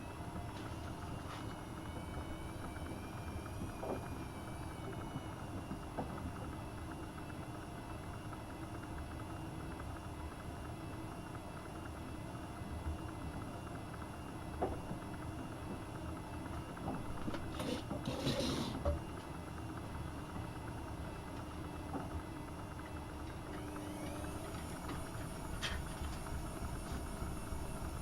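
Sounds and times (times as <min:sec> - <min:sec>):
washing machine drum droning: 0:00.0 - 0:28.0.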